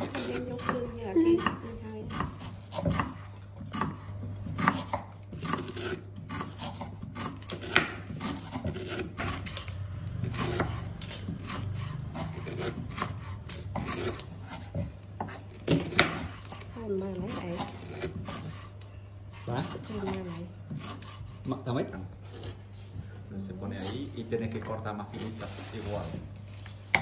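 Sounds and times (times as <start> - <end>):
rasping and scraping: 0.0 - 26.9
steady low hum: 0.0 - 27.0.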